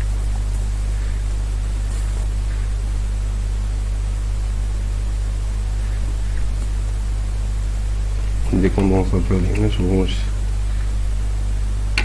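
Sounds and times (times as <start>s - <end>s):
constant hiss: 0.0s - 12.0s
electrical mains hum: 0.0s - 12.0s.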